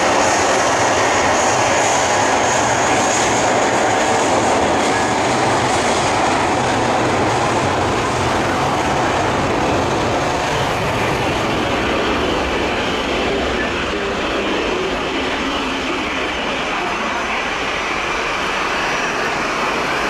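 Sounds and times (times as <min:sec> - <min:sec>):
jet engines running loud: 0:00.0 - 0:20.0.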